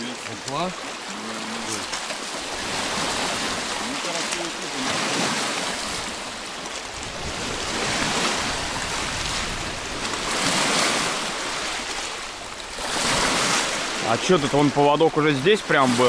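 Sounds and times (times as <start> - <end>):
waves washing on rocky shore: 0.0 - 16.0.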